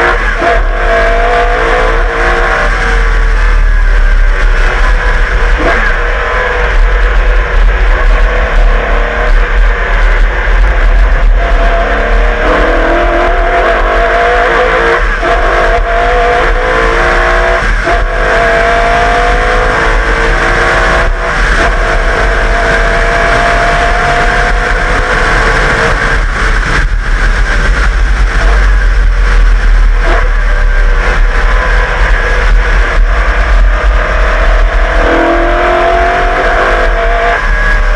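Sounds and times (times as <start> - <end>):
race car engine accelerating: 0.0 - 37.9.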